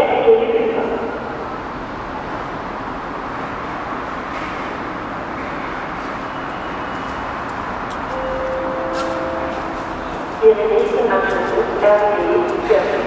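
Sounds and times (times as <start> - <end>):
high-speed train running past: 0.0 - 13.0.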